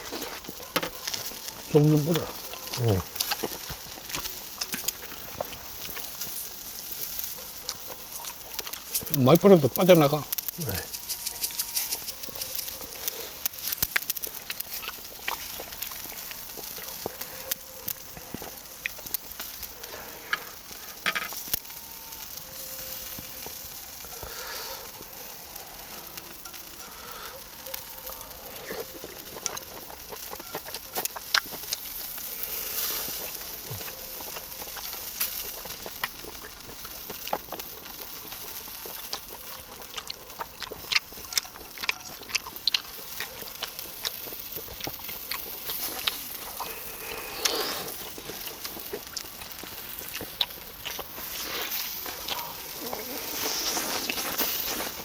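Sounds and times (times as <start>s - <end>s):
fat crackling and popping: 0.0s - 55.0s
meat sizzling over charcoal: 0.0s - 55.0s.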